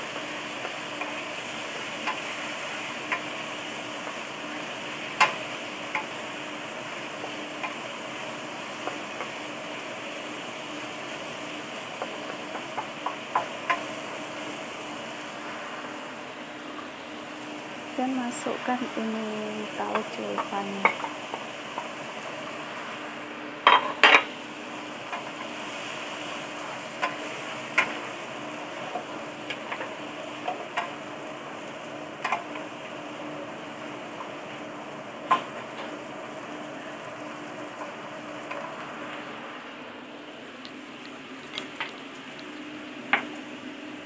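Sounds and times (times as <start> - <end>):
food sizzling in a wok: 0.0 - 44.0.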